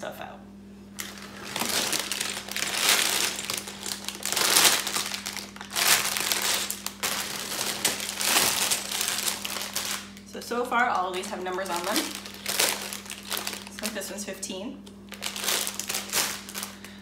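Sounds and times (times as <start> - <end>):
plastic bags crinkling: 1.0 - 14.3, 15.1 - 17.0.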